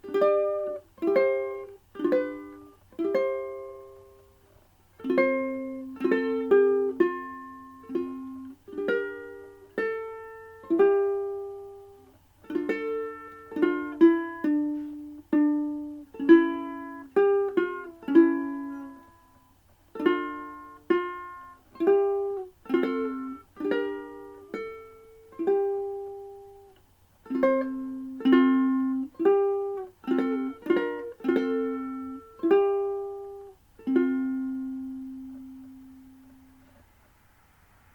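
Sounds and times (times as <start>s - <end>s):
ukulele playing hymn melody: 0.0s - 37.0s.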